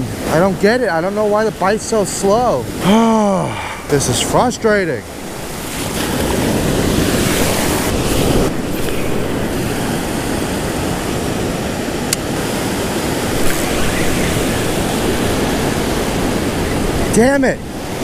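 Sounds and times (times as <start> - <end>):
surf washing over sand: 0.0 - 18.0.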